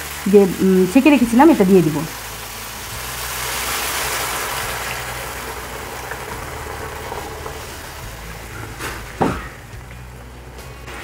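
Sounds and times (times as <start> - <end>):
liquid sizzling in a hot pan: 0.0 - 11.0.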